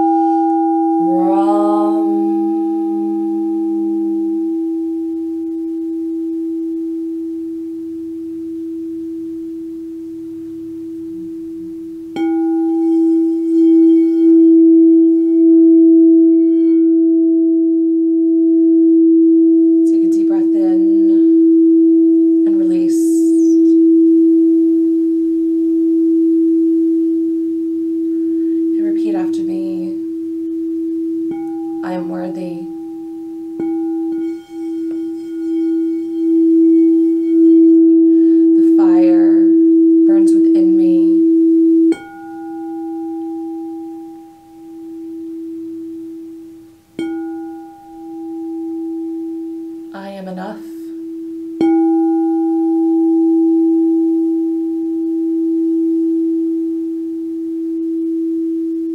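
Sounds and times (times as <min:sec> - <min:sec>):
singing bowl humming: 0:00.0 - 0:58.9
singing bowl ringing tone: 0:00.0 - 0:58.9.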